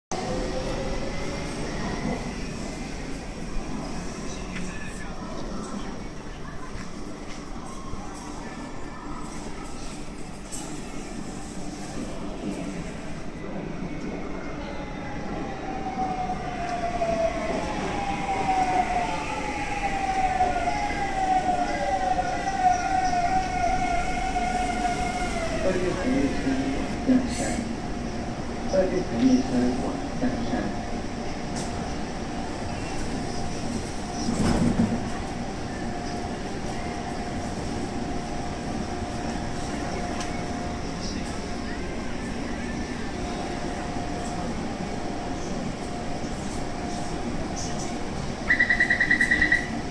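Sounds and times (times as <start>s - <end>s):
low train rumble: 0.1s - 49.9s
station background noise: 0.1s - 49.9s.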